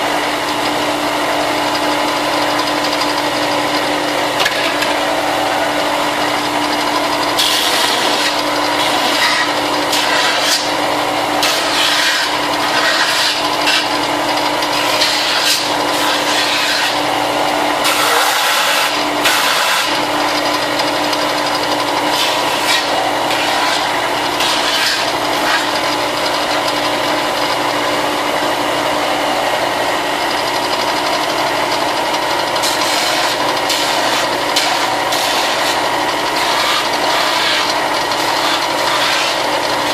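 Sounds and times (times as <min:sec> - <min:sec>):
electric sander sanding plastic: 0:00.0 - 0:39.9.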